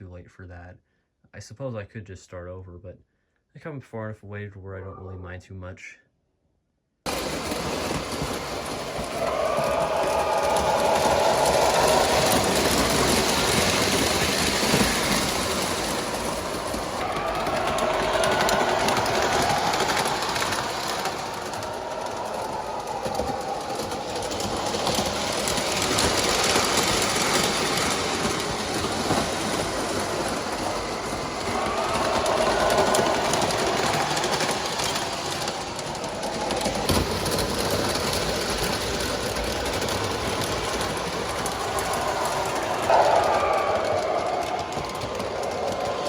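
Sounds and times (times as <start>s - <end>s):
model train motors whirring: 7.1s - 46.0s
train motor whine: 7.1s - 46.0s.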